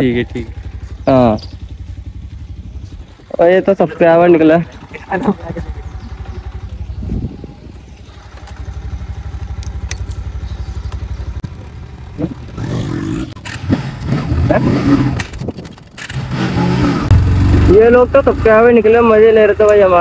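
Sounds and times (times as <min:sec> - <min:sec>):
motorcycle engine idling and pulling away: 0:00.0 - 0:20.0.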